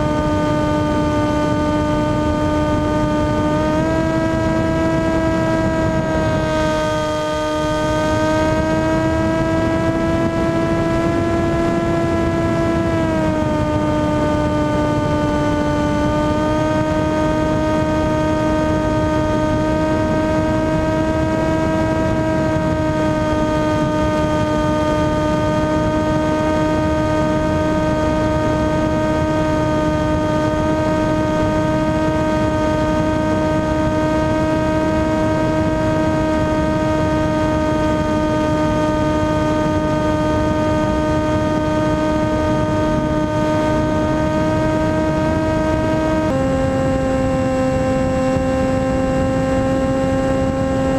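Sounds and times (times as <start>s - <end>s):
model aircraft motor humming: 0.0s - 50.9s
wind noise: 0.0s - 50.9s.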